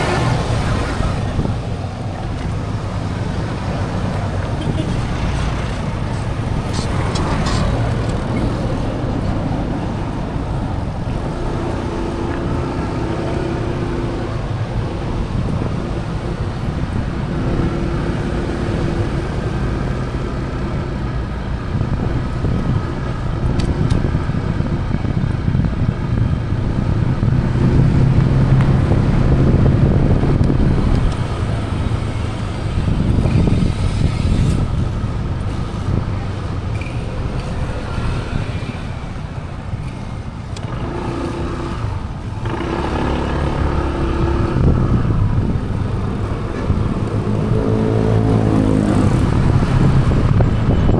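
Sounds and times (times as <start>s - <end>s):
road traffic: 0.0s - 50.9s
vehicle engine hum passing by: 0.0s - 50.9s.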